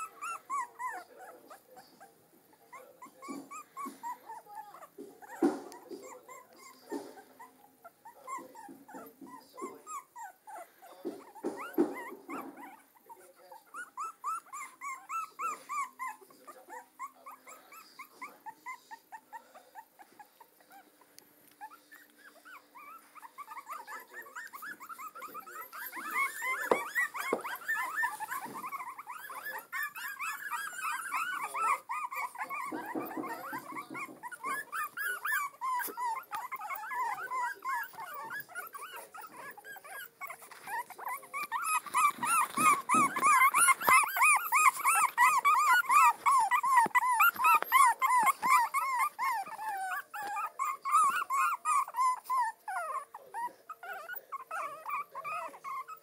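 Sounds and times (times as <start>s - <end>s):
puppies whimpering and squeaking: 0.0s - 56.0s.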